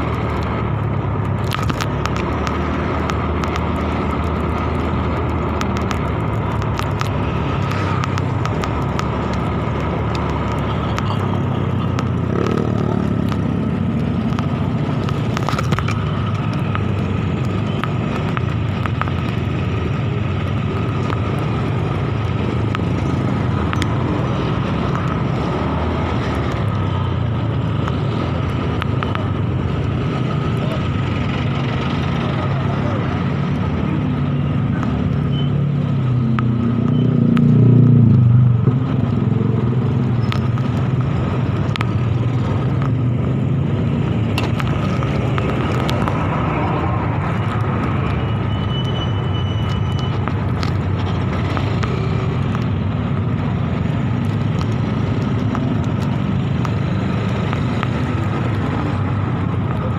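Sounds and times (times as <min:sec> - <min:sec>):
motorcycle engine running: 0:00.0 - 0:48.5
road noise: 0:00.0 - 0:59.9.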